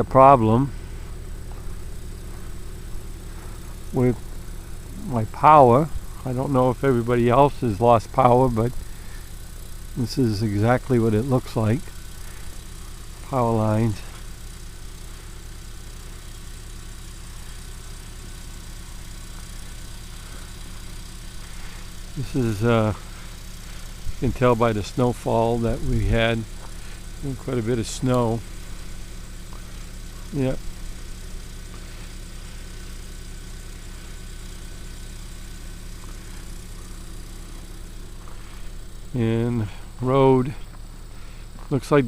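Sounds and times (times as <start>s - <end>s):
generator engine running: 0.0s - 42.0s.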